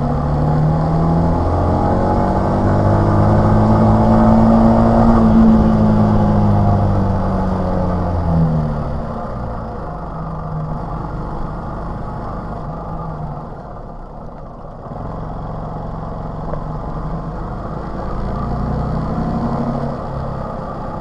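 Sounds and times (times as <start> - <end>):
moped engine running: 0.0 - 19.2
road and wind noise: 0.0 - 21.0.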